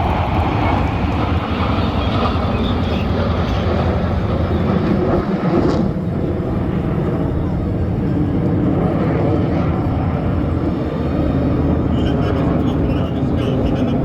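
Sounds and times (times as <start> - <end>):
jet rumble in flight: 0.0 - 14.0.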